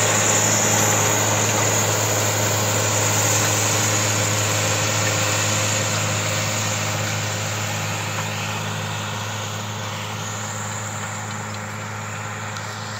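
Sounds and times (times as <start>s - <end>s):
tractor diesel engine: 0.0s - 12.9s.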